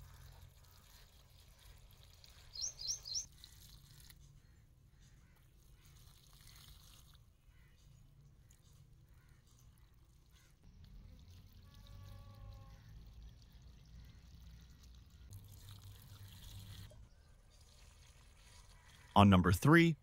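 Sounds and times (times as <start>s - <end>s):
faint liquid trickle onto soil: 0.0s - 19.2s.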